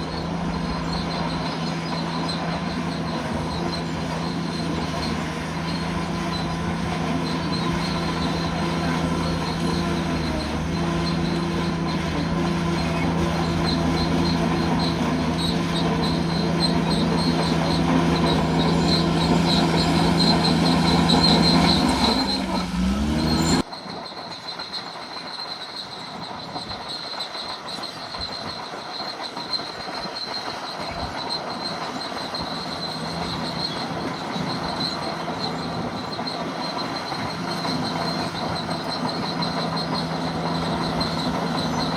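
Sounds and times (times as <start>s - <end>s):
bulldozer diesel engine running: 0.0s - 41.9s
high pulsing squeal of steel tracks: 0.0s - 41.9s
track clatter: 0.0s - 41.9s.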